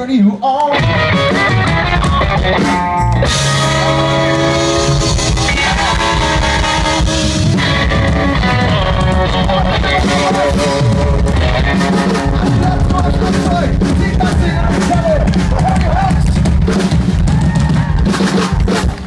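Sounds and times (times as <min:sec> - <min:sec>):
guitar: 0:00.0 - 0:19.0
live rock band playing: 0:00.6 - 0:19.0.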